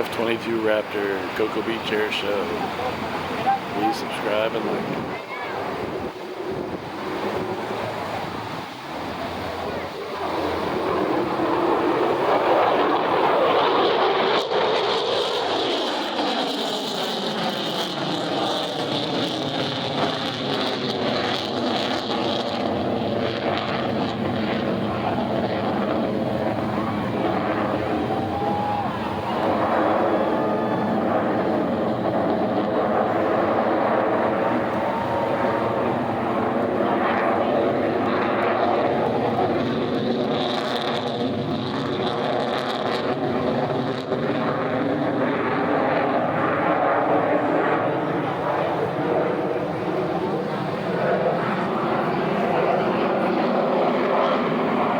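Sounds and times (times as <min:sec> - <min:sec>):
jet engine roar: 0:00.0 - 0:54.9.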